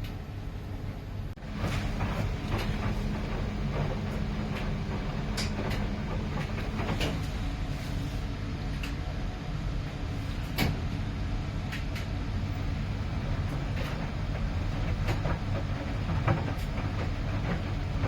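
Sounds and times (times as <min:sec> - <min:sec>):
washing machine running: 0:00.0 - 0:18.0.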